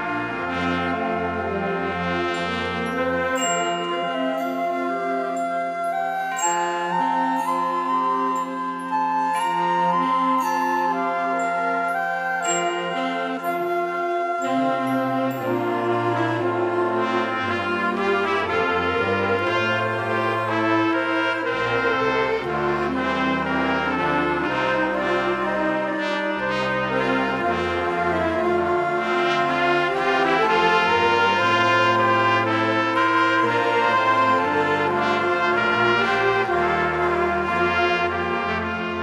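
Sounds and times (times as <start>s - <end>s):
wind ensemble playing chords: 0.0s - 39.0s.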